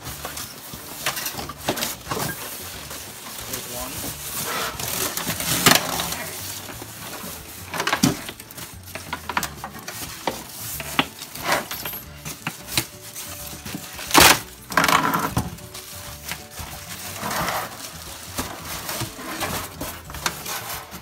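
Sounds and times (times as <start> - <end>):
foam scraping and squeaking: 0.0 - 21.0
plastic wrap crinkling: 0.0 - 21.0.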